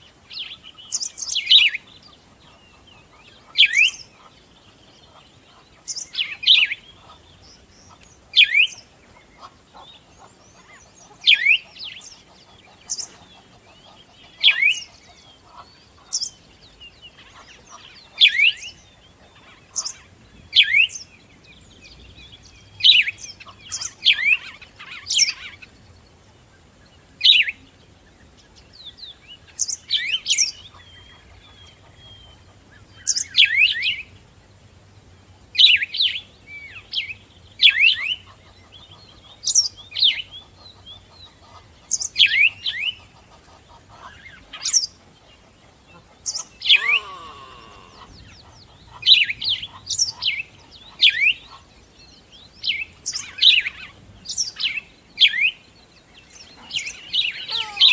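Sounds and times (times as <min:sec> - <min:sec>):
birds chirping: 0:00.0 - 0:34.2, 0:35.0 - 0:57.9.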